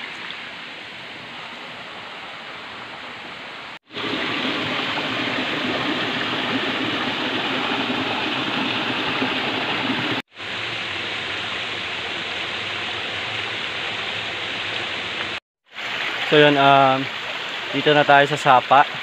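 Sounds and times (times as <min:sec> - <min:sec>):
creek water running over rocks: 0:00.0 - 0:19.0.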